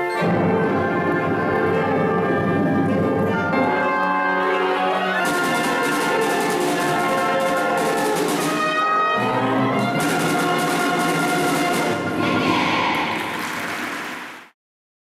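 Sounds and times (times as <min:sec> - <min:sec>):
concert band playing: 0:00.0 - 0:14.3.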